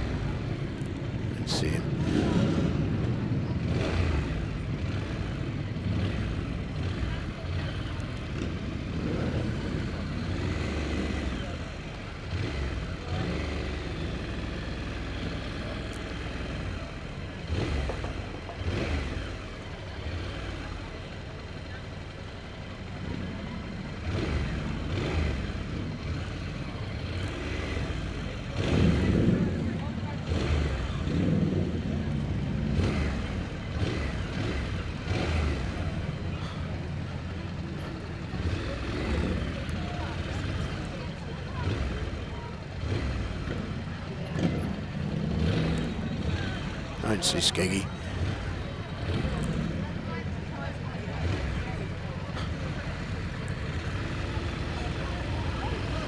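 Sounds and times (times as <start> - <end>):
motorcycle engine accelerating: 0.0 - 22.1, 22.8 - 56.0
road and wind noise: 0.0 - 56.0.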